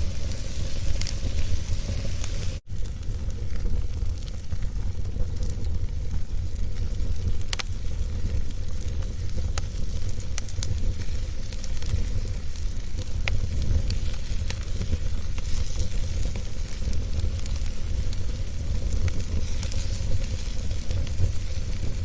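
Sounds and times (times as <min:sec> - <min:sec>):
sharp pops of burning wood: 0:00.0 - 0:22.0
wood fire crackling: 0:00.0 - 0:22.0.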